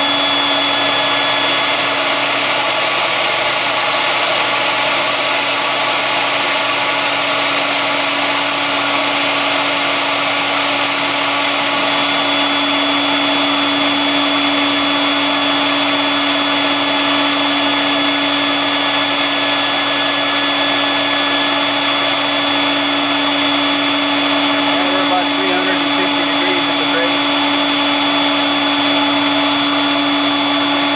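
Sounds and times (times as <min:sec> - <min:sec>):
blower motor whine: 0:00.0 - 0:30.9.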